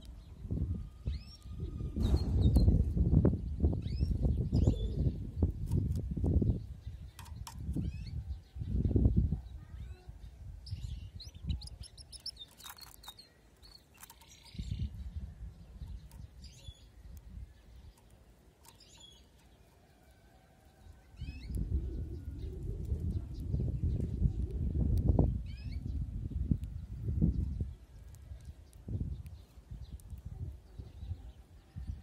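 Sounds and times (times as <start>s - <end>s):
canary chirping and trilling: 0.0s - 32.0s.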